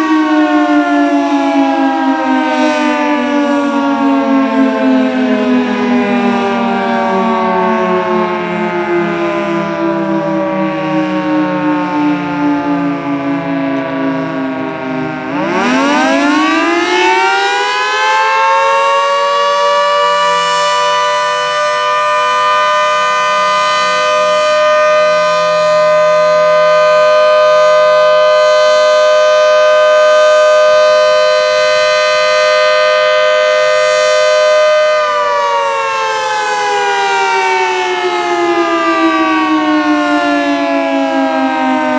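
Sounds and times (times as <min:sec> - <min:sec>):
dual-tone warning siren wailing: 0:00.0 - 0:41.9.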